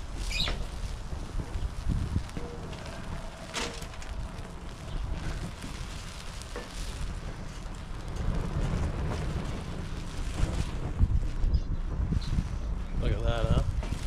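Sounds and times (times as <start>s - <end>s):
food sizzling in frying pan: 0.0s - 11.3s
low rumble: 0.0s - 14.0s.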